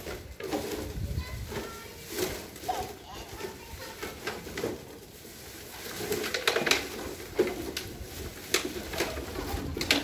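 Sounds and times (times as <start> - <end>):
scooter wheels clicking on bricks: 0.0 - 10.0.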